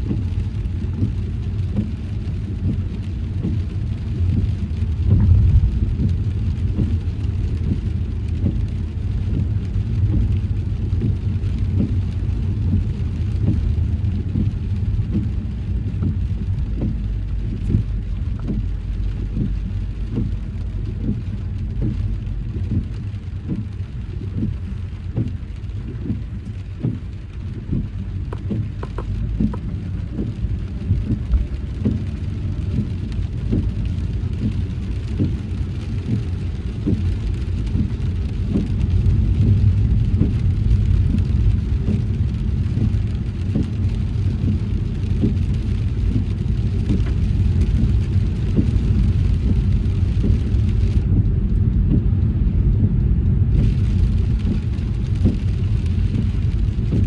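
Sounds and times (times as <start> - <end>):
car tyres and engine rumble: 0.0 - 57.0
raindrops tapping: 0.0 - 57.0.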